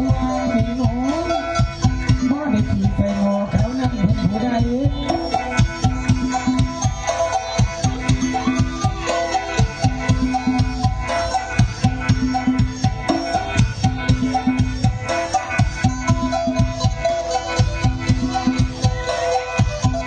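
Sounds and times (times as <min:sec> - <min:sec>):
folk melody over drone: 0:00.0 - 0:20.0
steady drum beat: 0:00.0 - 0:20.0.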